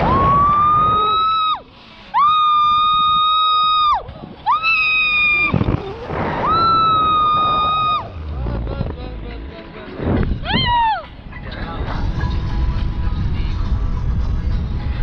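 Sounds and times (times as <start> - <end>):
wind rumbling on microphone: 0.0 - 1.6, 2.2 - 15.0.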